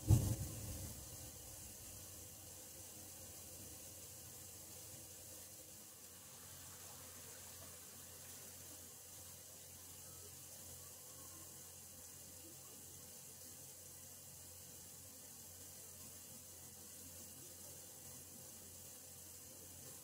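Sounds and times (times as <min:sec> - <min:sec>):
water running through pipes: 0:00.0 - 0:20.0.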